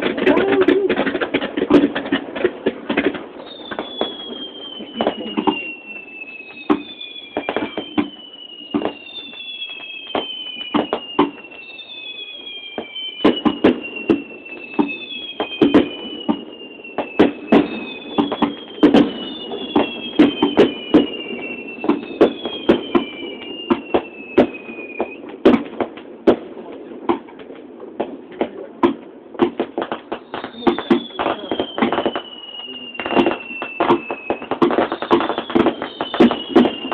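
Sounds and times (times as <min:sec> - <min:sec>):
fireworks cracks and bangs: 0:00.0 - 0:36.9
fireworks whistles falling in pitch: 0:00.0 - 0:36.9.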